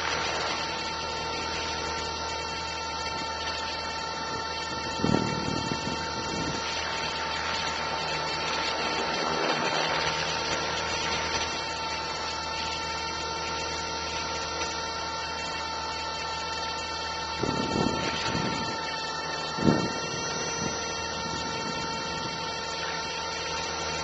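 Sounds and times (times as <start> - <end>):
electric motor high whine: 0.0 - 24.0
spinning rotor blades rushing: 0.0 - 24.0.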